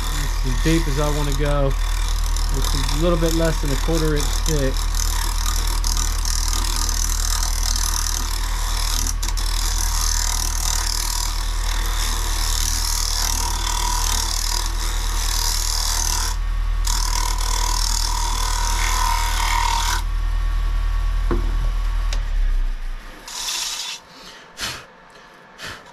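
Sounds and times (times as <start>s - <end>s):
tool cutting wood on lathe: 0.0s - 20.1s, 23.2s - 25.9s
lathe motor hum: 0.0s - 24.0s.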